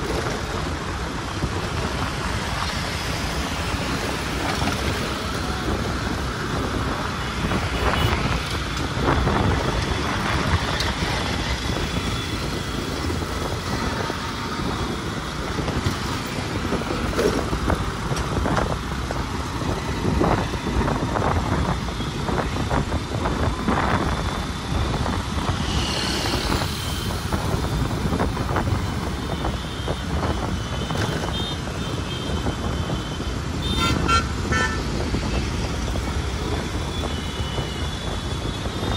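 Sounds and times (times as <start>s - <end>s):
rumble of engines and tyres: 0.0s - 38.9s.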